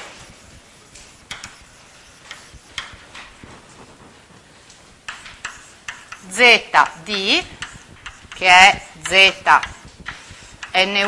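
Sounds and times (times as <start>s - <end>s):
sharp chalk clicks: 0.0s - 3.4s, 4.7s - 11.0s
chalk scratching on blackboard: 0.0s - 4.4s, 5.0s - 11.0s.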